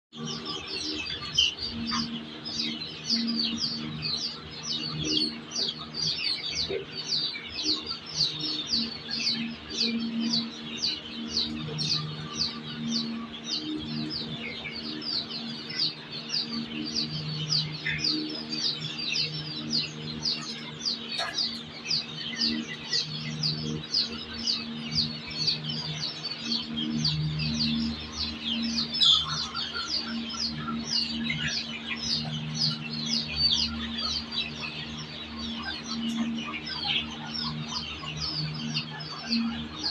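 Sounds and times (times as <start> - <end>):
birds chirping: 0.1 - 39.9.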